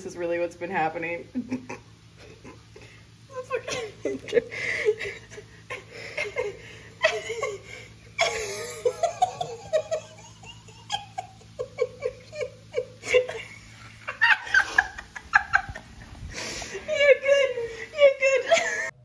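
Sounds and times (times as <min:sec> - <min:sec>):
women laughing: 0:01.3 - 0:19.0.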